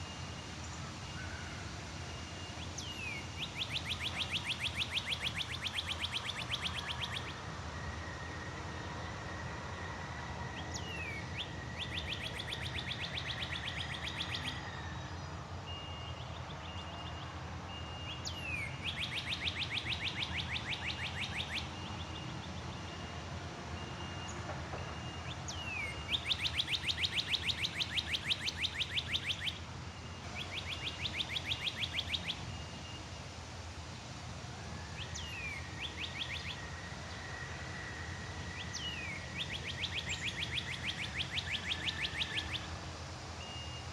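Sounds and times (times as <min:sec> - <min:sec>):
songbird whistle and trill: 0:00.0 - 0:33.3, 0:34.6 - 0:43.9.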